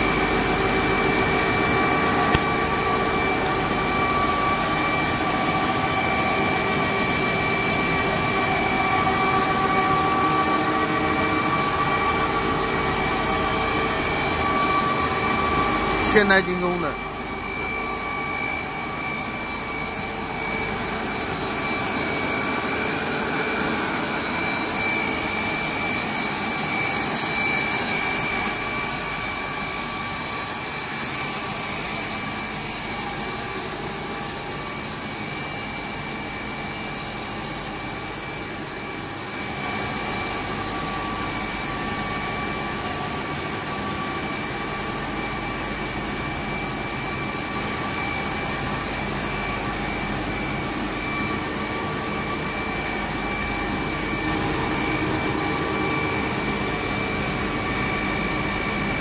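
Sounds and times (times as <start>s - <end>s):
high-pitched machine whine: 0.0s - 59.0s.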